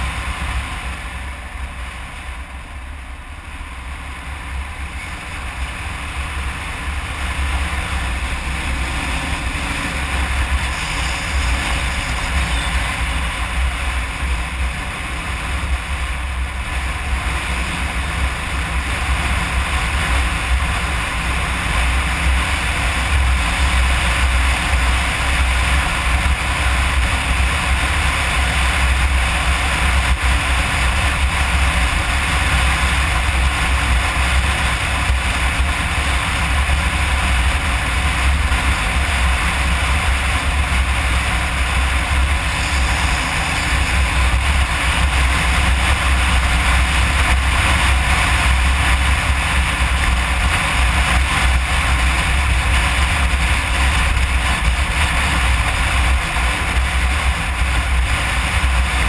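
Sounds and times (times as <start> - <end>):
motorcycle engine rumble: 0.0 - 59.0
wind and road noise: 0.0 - 59.0.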